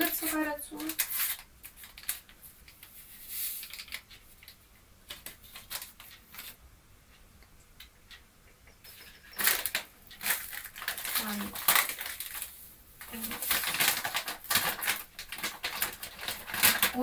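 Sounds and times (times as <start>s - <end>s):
paper sachet rustling: 0.0s - 6.6s, 9.3s - 17.0s.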